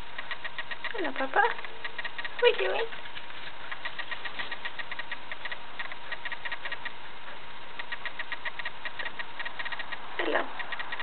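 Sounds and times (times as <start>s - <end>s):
cockatiel clicking: 0.0s - 7.0s, 7.8s - 11.0s
faint steady hum: 0.0s - 11.0s.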